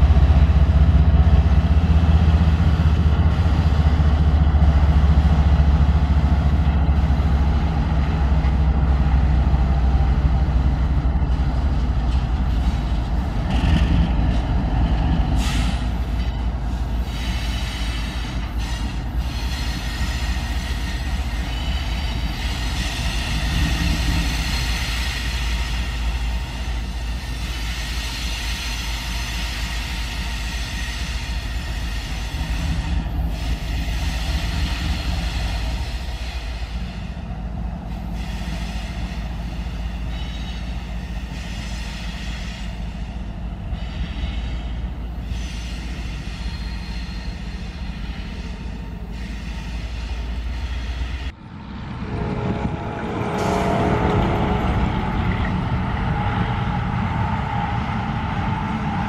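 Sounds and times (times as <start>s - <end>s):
diesel locomotive engine rumble: 0.0s - 59.0s.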